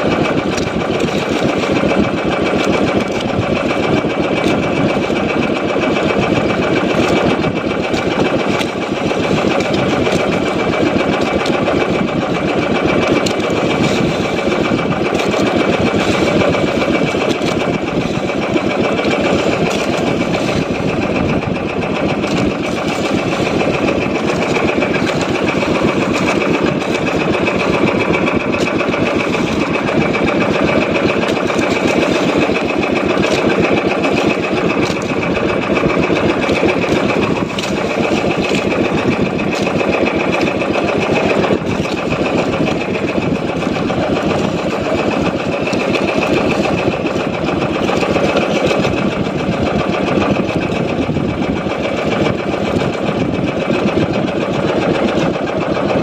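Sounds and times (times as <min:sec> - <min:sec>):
small boat engine chugging: 0:00.0 - 0:56.0.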